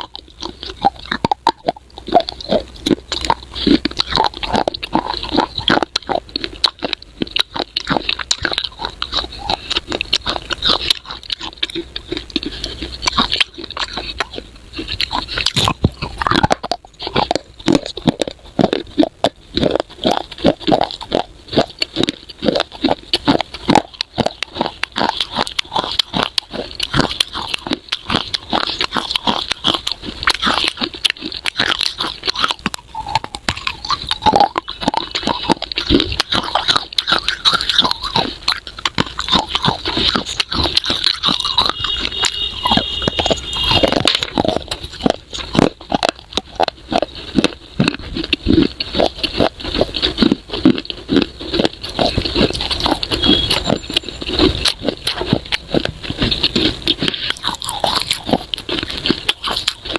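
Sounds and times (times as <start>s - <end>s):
chewing hard clay crunches: 0.0s - 59.9s.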